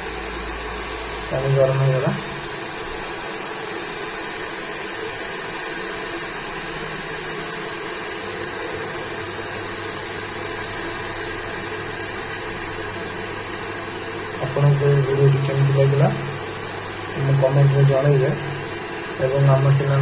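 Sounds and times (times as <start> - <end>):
induction cooker whirring: 0.0 - 20.0.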